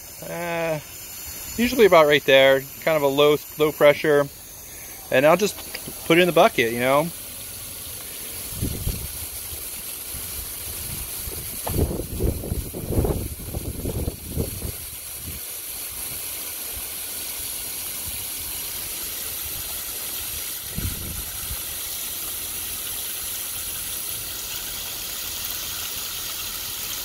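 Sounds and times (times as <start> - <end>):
hose spraying water into bucket: 0.0 - 27.0.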